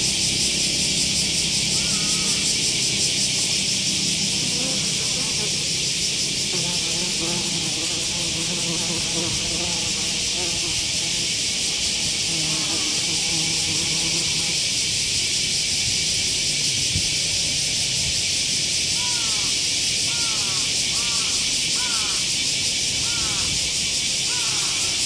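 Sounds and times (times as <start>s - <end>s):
flying insect wing buzz: 0.0s - 25.0s
steady high-pitched hiss: 0.0s - 25.0s.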